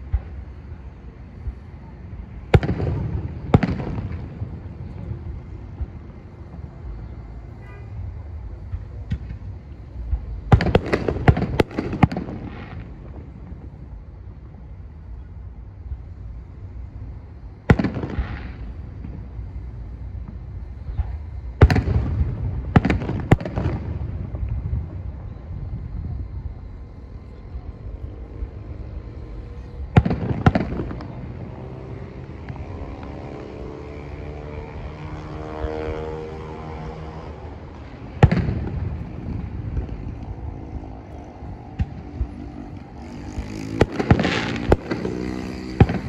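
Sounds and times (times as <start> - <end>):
steady low rumble: 0.0 - 33.1, 37.2 - 45.0
fireworks bursting in distance: 0.0 - 46.0.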